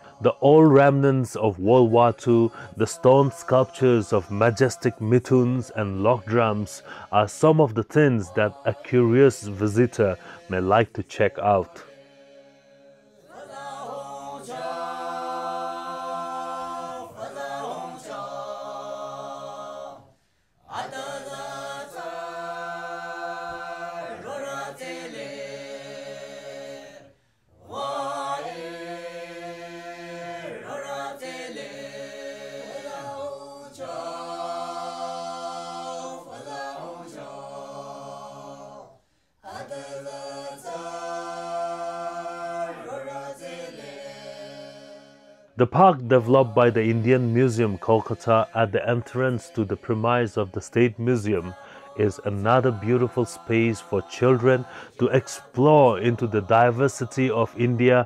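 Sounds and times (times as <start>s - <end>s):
a cappella chant-like singing: 0.0s - 58.0s.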